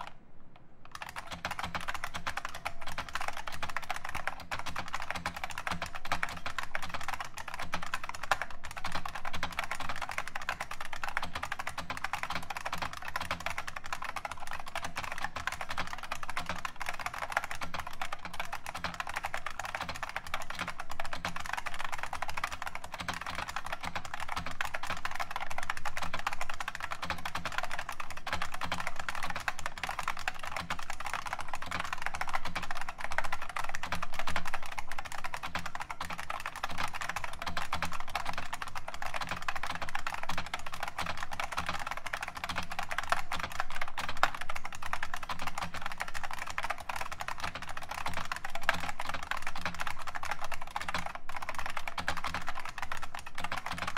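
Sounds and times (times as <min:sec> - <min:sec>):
fast clicky keyboard typing: 0:00.8 - 0:53.9.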